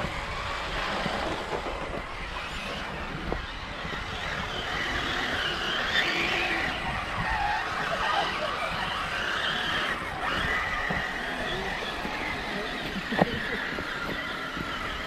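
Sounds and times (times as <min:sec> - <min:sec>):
rc truck motor whining: 0:00.0 - 0:15.0.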